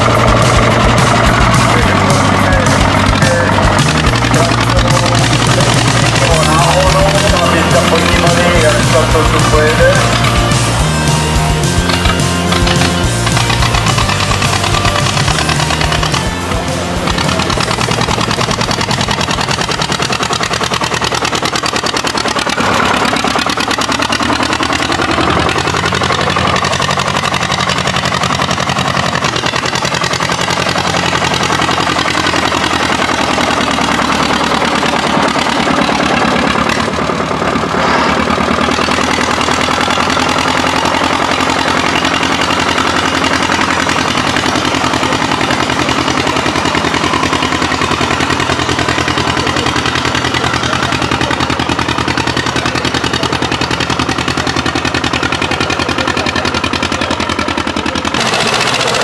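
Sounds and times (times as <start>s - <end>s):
tractor engine revving: 0.0s - 59.0s.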